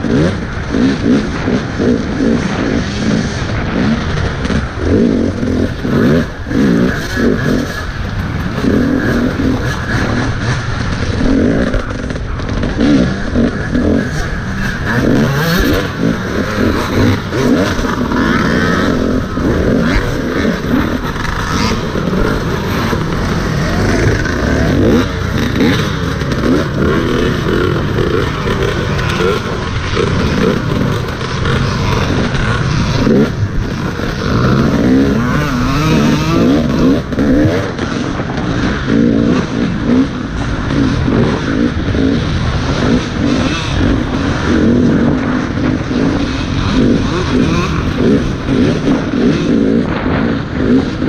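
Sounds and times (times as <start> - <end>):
dirt bike engine racing: 0.0 - 51.0.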